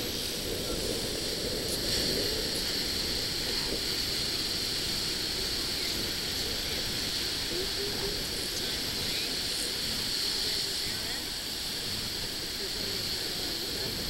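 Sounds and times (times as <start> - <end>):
ocean surf hissing: 0.0 - 14.0
wind noise on microphone: 0.0 - 14.0.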